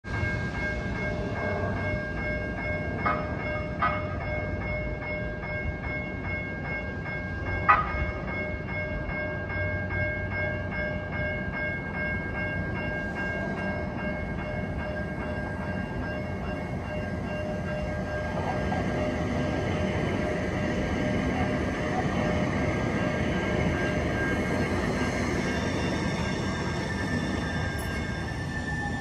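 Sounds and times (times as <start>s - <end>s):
crossing warning bell ringing: 0.0s - 29.0s.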